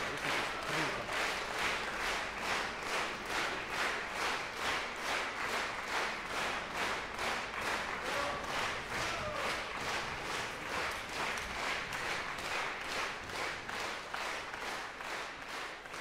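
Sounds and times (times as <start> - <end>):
audience clapping in unison: 0.0 - 16.0.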